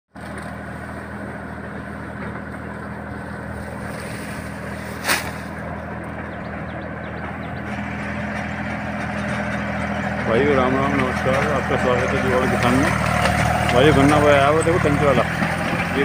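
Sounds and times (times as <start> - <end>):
tractor engine running: 0.1 - 16.0.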